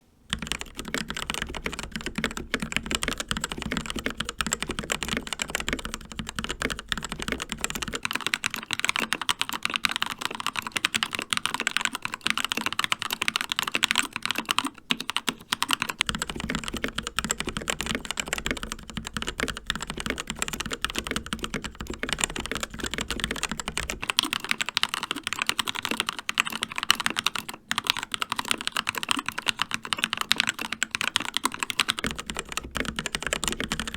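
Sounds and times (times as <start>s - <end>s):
fast typing on mechanical keyboard: 0.3s - 33.9s.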